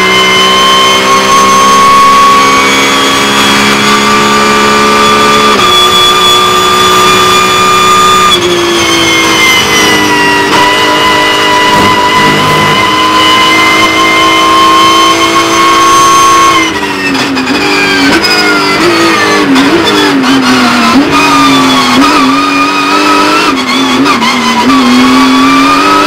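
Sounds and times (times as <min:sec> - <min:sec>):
race car engine at speed: 0:00.0 - 0:26.0.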